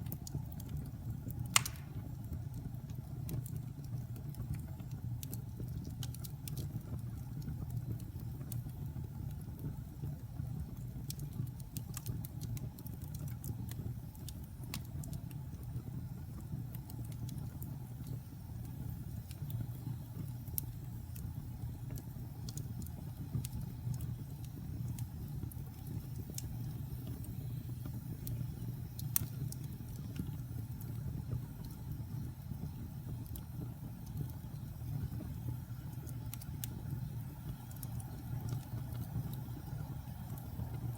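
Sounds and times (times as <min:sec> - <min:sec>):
low rumble of flames: 0:00.0 - 0:40.9
wood crackling and popping: 0:00.0 - 0:40.9.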